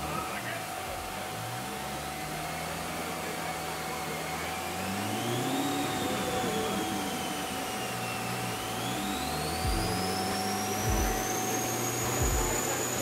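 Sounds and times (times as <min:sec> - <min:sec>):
car engine revving: 0:00.0 - 0:13.0
dyno rollers whirring: 0:00.0 - 0:13.0.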